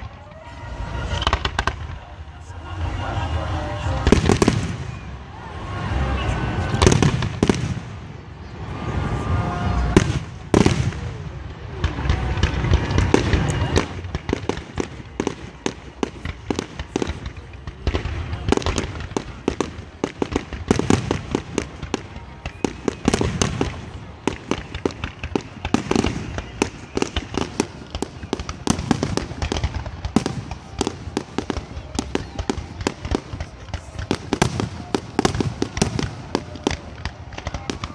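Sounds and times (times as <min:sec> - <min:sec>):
fireworks crackling: 0:00.0 - 0:37.9.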